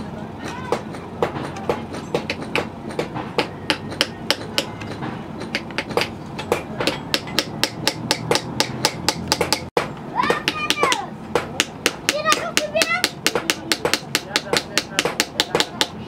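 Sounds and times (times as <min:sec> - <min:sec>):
hammer striking metal: 0:00.4 - 0:16.0.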